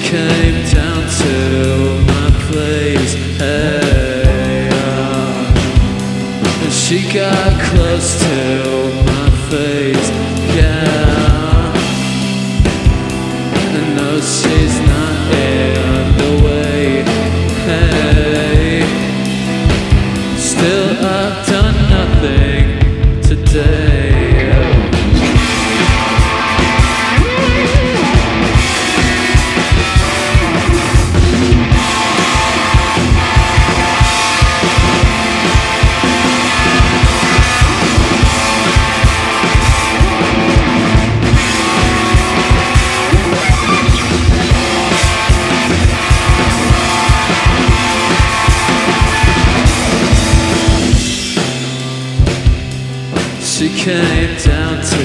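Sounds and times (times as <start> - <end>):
drum kit beat: 0.0 - 55.0
electric guitar: 0.0 - 55.0.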